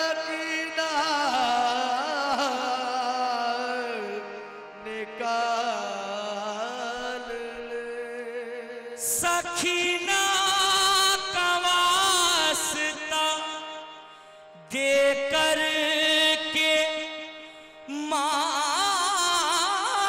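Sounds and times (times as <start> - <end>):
harmonium drone: 0.0 - 20.0
man singing long notes: 0.0 - 20.0.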